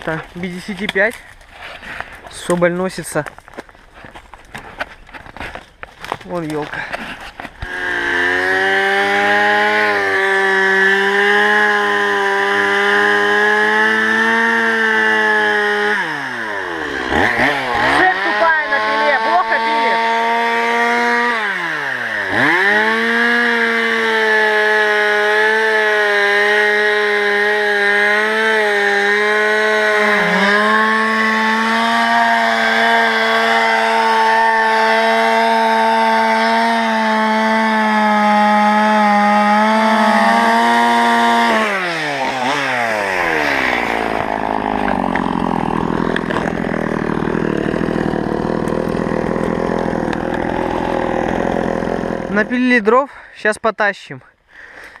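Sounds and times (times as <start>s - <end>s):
chainsaw cutting a log: 3.5s - 53.0s.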